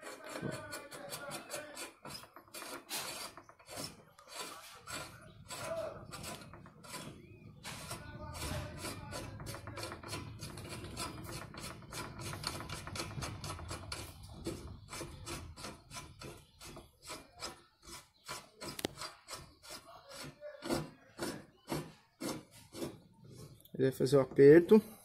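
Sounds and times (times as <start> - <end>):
threads rasping: 0.0 - 24.8.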